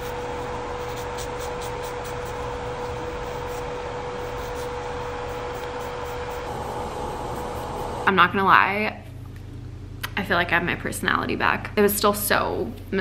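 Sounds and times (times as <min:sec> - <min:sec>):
fan running: 0:00.0 - 0:13.0.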